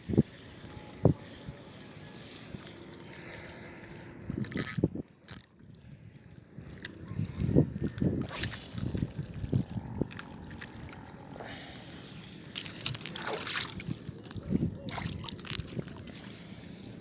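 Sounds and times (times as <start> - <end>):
water sloshing and splashing: 2.2 - 17.0.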